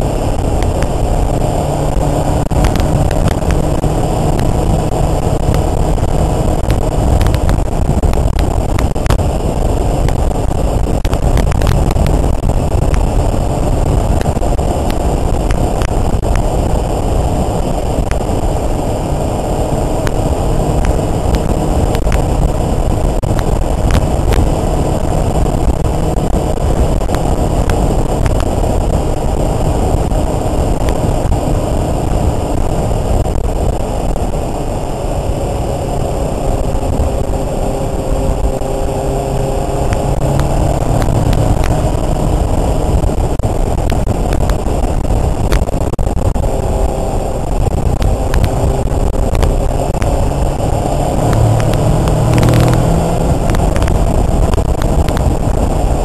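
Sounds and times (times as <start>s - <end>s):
motorcycle engine drone: 0.0s - 56.0s
wind rushing on microphone: 0.0s - 56.0s.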